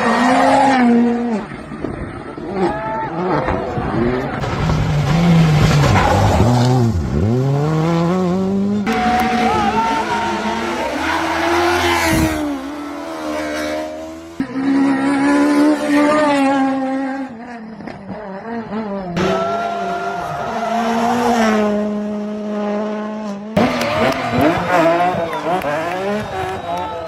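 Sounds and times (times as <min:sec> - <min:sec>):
rally car engines revving: 0:00.0 - 0:27.0.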